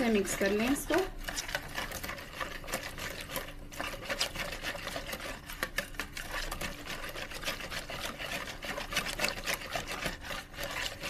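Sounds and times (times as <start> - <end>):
spoon beating batter in bowl: 0.0 - 11.0.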